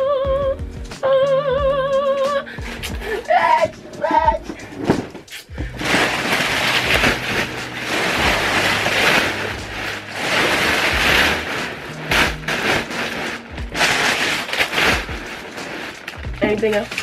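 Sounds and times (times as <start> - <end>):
packing paper rustling and crackling: 2.7 - 17.0.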